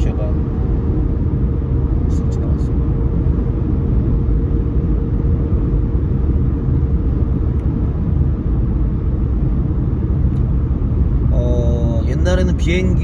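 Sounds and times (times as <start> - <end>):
car cabin road rumble: 0.0 - 13.0
faint steady hum: 0.0 - 13.0.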